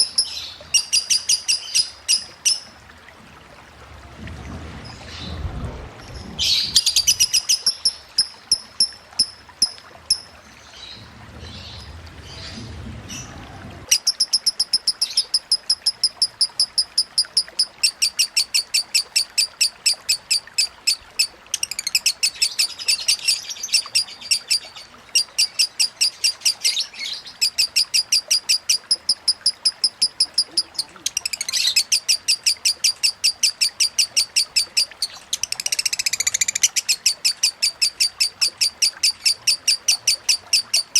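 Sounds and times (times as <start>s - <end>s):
lovebird chattering chirps: 0.0s - 2.7s, 6.4s - 10.3s, 13.9s - 40.9s.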